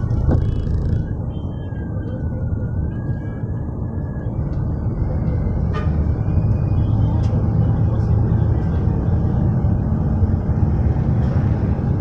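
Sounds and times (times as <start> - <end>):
road traffic rumble: 0.0 - 12.0
vehicle engine running nearby: 0.0 - 12.0.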